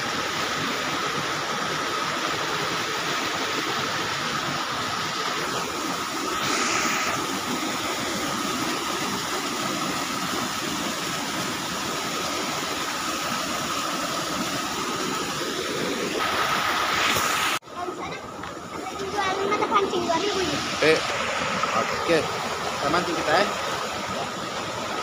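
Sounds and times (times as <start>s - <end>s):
water rushing over a weir: 0.0s - 25.0s.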